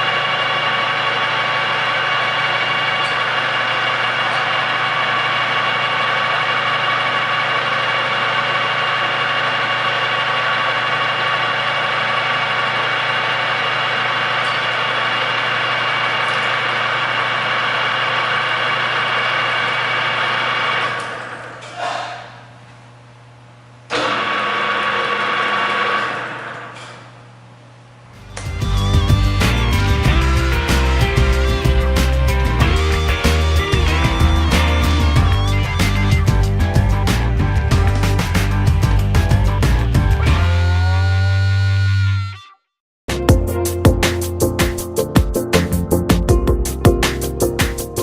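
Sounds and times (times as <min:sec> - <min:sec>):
lathe running with steady hum: 0:00.0 - 0:22.6, 0:23.3 - 0:41.4.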